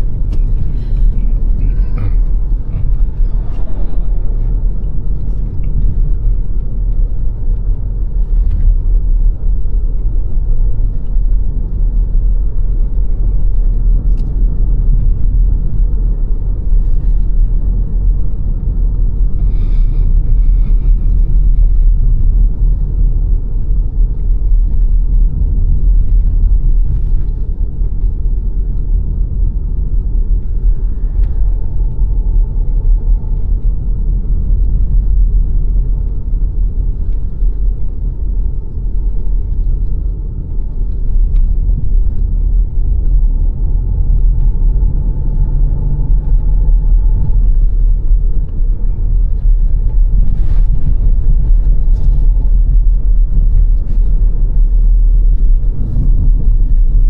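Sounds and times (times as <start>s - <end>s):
car driving on road: 0.0s - 57.0s.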